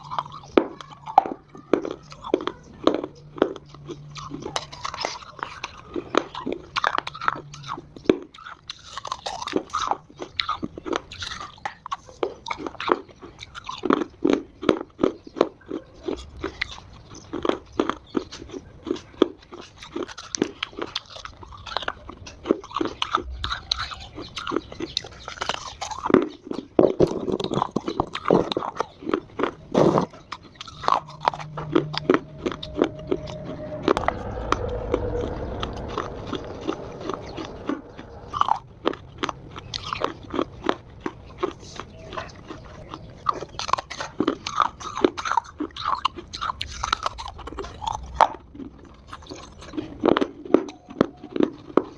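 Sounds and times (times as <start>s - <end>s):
clay crunching being chewed: 0.0s - 51.9s.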